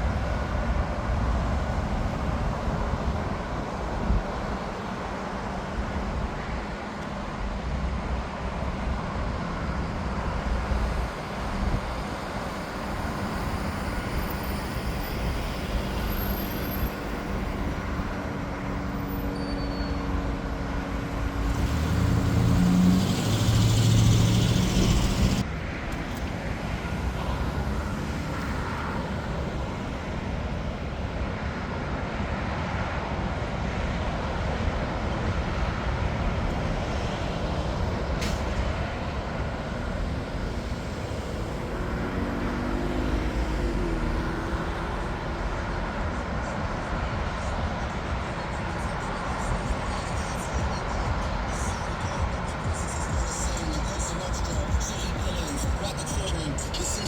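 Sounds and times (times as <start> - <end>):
airport engines rumbling: 0.0 - 57.0
road traffic: 0.0 - 57.0.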